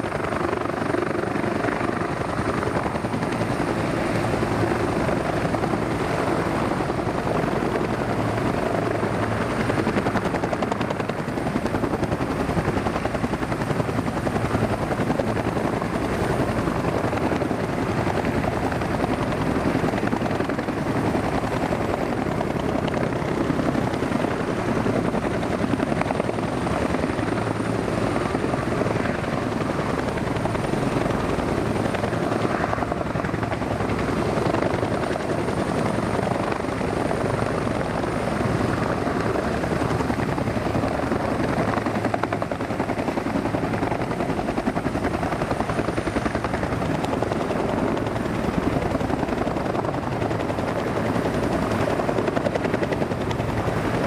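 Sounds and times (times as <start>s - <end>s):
helicopter rotor chop and turbine: 0.0s - 54.0s.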